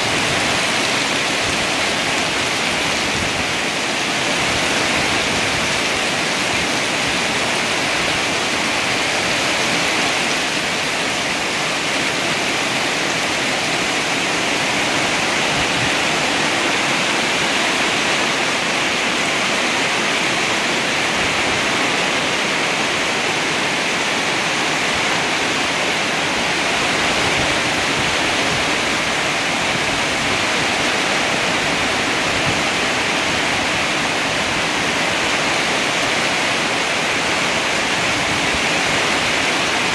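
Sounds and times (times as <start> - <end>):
rain on leaves: 0.0 - 39.9
rain splashing into water: 0.0 - 39.9.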